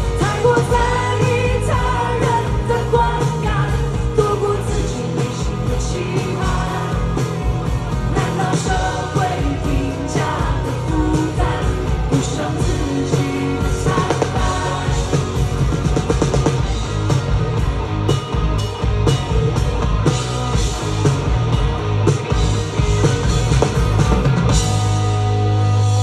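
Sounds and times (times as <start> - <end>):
rock band playing instrumental: 0.0 - 26.0.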